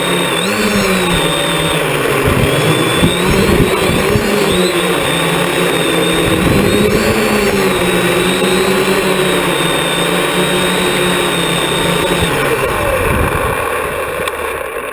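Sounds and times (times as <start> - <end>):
drone motors whining: 0.0 - 14.9.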